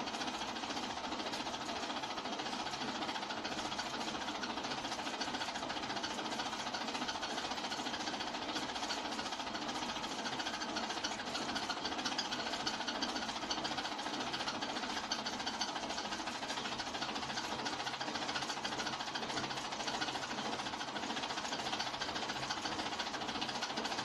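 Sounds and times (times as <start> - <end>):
film projector ticking: 0.0 - 24.0.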